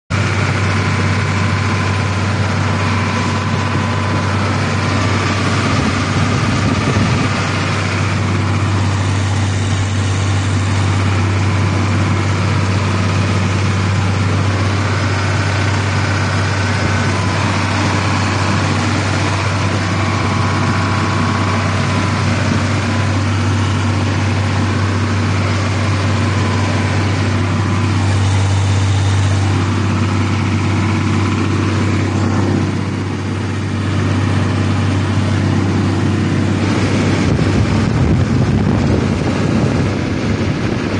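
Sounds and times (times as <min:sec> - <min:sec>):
engine running low hum: 0:00.1 - 0:40.9.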